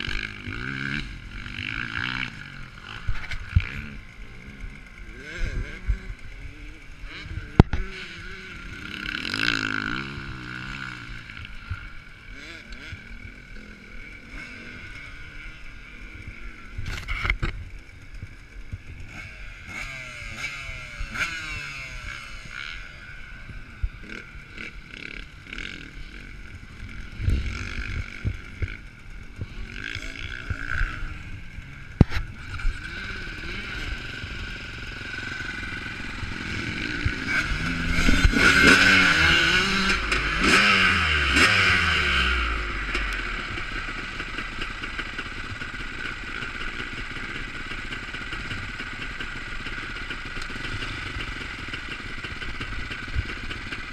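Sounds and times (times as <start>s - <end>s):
motocross motorcycle engines revving: 0.0s - 53.9s.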